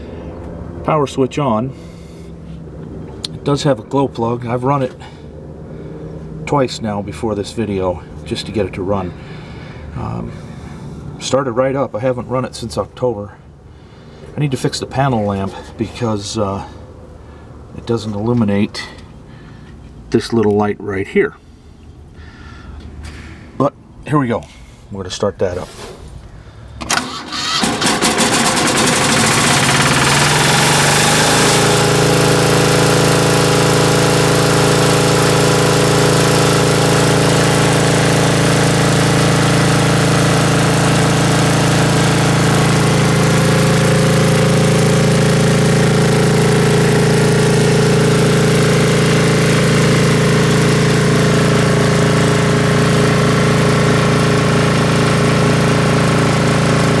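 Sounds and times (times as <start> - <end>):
diesel engine starting and running: 0.0 - 20.0, 25.8 - 57.0.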